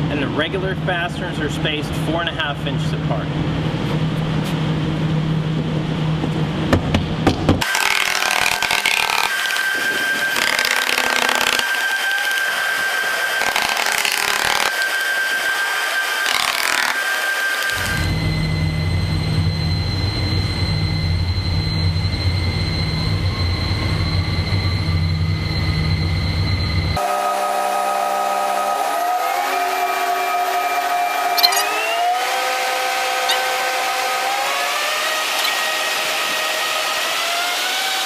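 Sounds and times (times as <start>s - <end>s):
large electric fans humming: 0.0s - 38.0s.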